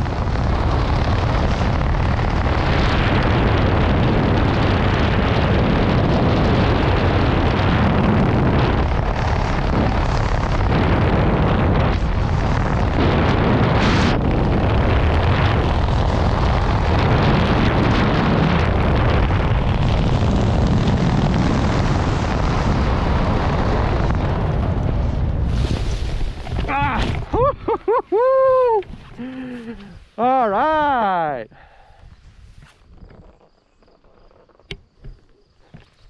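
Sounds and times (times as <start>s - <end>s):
wind rushing over microphone: 0.0s - 36.0s.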